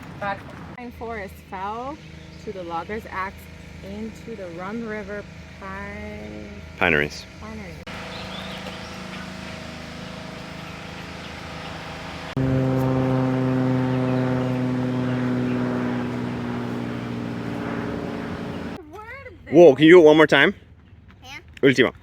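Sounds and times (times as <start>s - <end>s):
steady engine drone: 0.9s - 18.8s.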